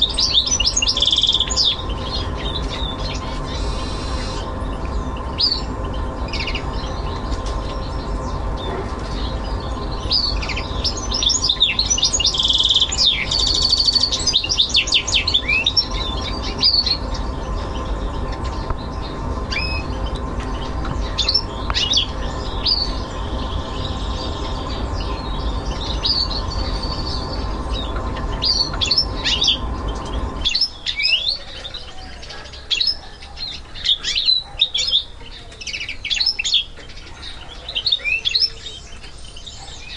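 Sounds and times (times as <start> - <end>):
bird twittering with fast trills: 0.0 - 39.9
steady low hum: 0.0 - 39.9.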